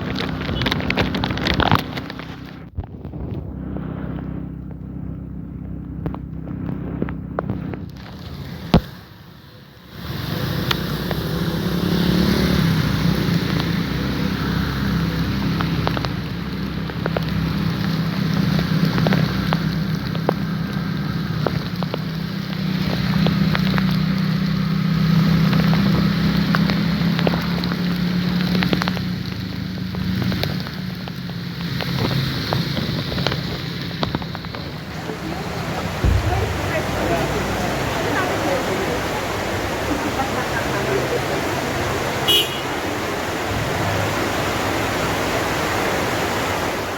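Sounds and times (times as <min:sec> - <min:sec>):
heavy rain on hard surface: 0:00.0 - 0:46.9.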